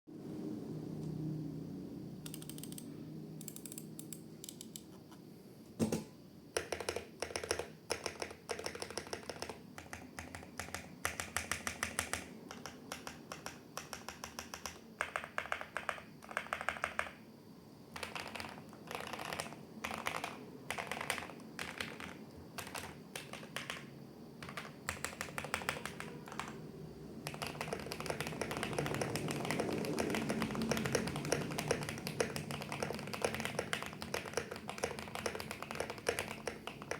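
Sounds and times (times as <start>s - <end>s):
mechanical keyboard typing: 2.2s - 4.9s, 6.6s - 17.2s, 17.9s - 26.6s, 27.2s - 36.9s.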